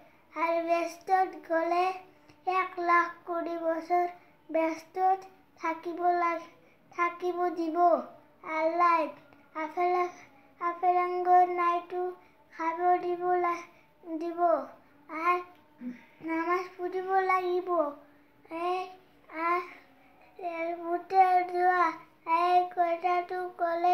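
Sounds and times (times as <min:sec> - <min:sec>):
boy chanting sermon: 0:00.4 - 0:23.9.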